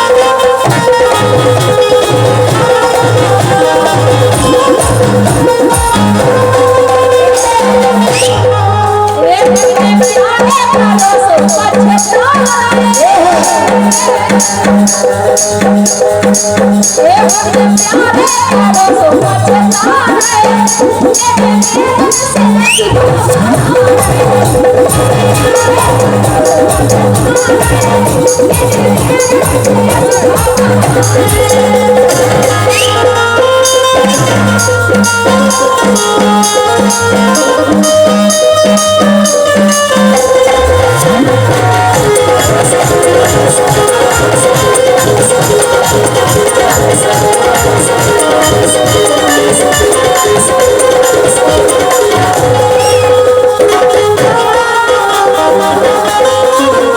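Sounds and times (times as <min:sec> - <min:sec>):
instrumental music with jingle beat: 0:09.4 - 0:56.9.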